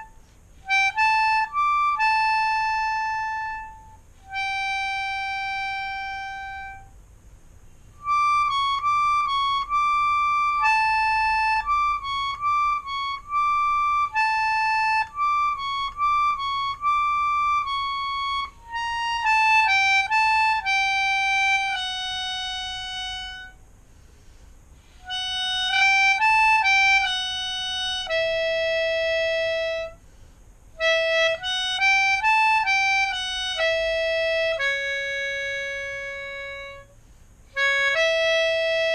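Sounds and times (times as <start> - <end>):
melodica melody: 0.0 - 7.0, 7.7 - 23.6, 24.8 - 38.9.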